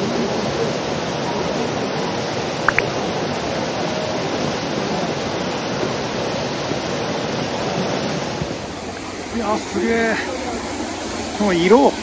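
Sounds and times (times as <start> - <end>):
hot spring water splashing: 0.0 - 12.0.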